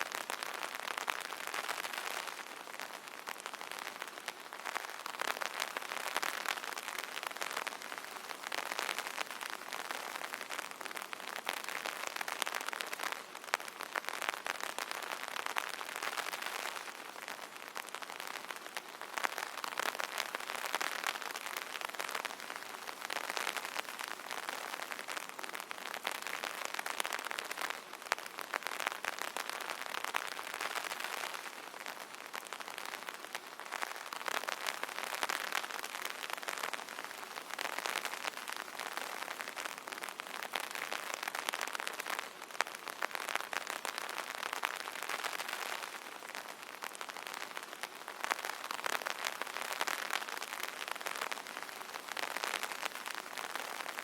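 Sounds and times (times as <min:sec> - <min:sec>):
rain pattering on umbrella: 0:00.0 - 0:54.0.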